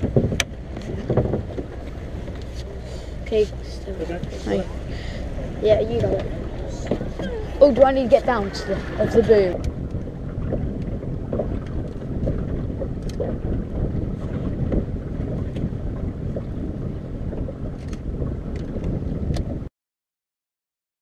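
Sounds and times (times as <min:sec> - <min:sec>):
water rushing past boat hull: 0:00.0 - 0:19.7
wind rumbling on microphone: 0:00.0 - 0:19.7.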